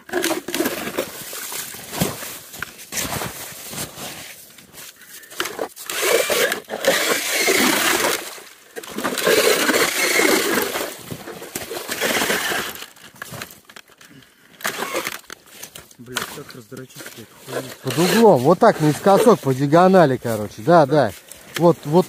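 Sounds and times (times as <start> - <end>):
ice crunching and scraping: 0.0 - 22.0.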